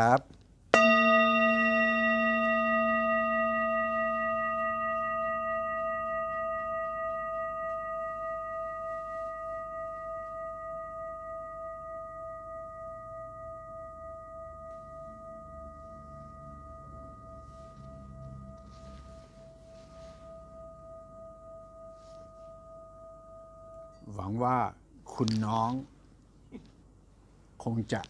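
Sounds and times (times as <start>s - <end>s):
singing bowl ringing: 0.7s - 24.7s.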